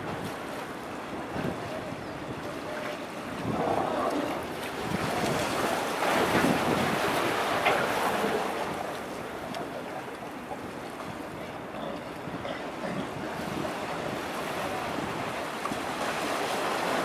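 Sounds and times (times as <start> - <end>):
sea water lapping: 0.0 - 17.0
wind buffeting microphone: 0.0 - 17.0.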